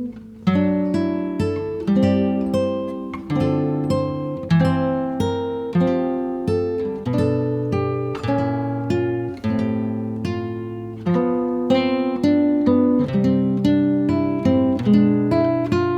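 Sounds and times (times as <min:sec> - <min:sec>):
acoustic guitar chords: 0:00.0 - 0:15.9.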